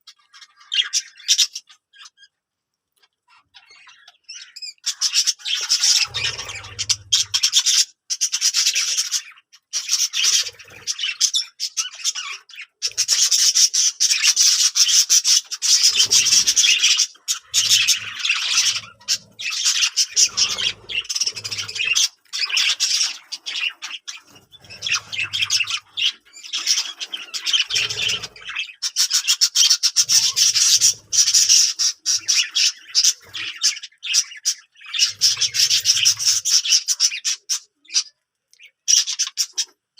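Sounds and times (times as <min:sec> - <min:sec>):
budgerigars chattering: 0:03.3 - 0:39.8.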